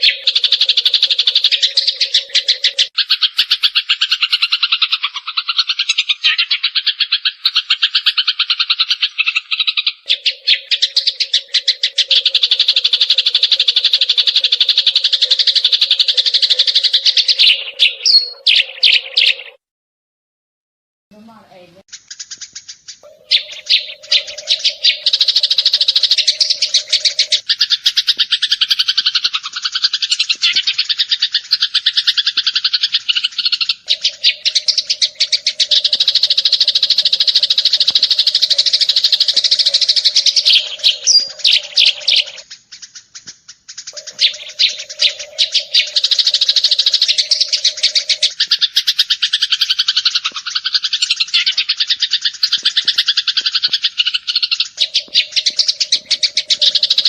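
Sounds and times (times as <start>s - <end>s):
sparrows chirping: 0.0s - 19.6s, 21.2s - 57.0s.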